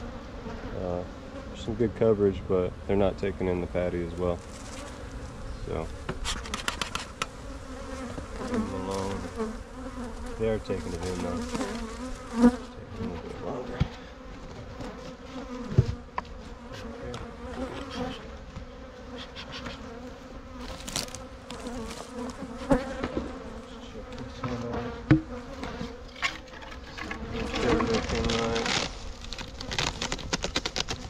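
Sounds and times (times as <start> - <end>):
honeybees buzzing: 0.0 - 31.0.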